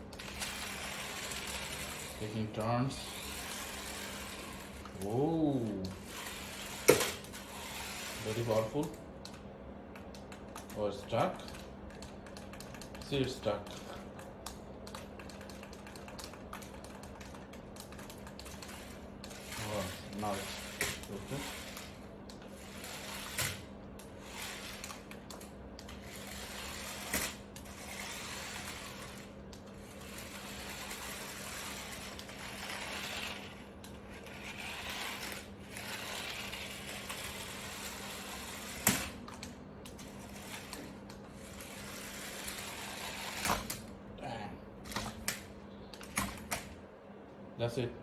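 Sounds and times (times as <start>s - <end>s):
toy truck motors whirring: 0.0s - 9.0s, 10.1s - 43.8s.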